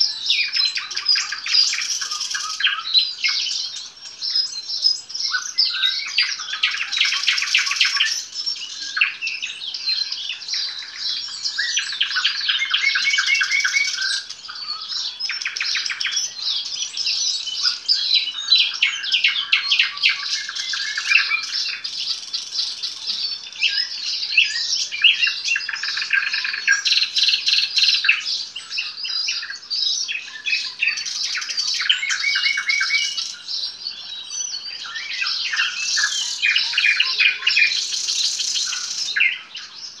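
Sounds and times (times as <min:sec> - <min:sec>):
nightingale singing trills: 0:00.0 - 0:40.0.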